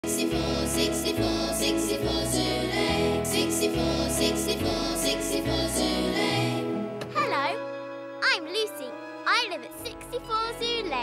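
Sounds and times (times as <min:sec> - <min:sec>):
cartoon theme music with beat: 0:00.1 - 0:11.0.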